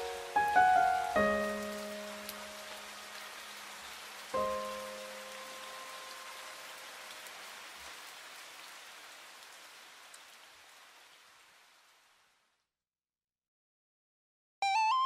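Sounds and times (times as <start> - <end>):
rain patter: 0.0 - 12.7.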